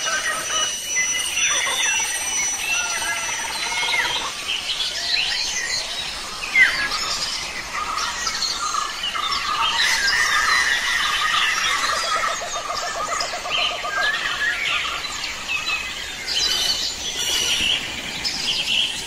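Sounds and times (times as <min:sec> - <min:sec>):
birds chirping and whistling: 0:00.0 - 0:19.0.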